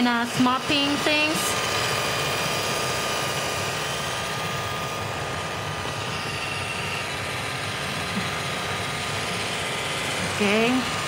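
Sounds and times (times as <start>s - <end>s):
robot vacuum whirring: 0.0s - 11.0s.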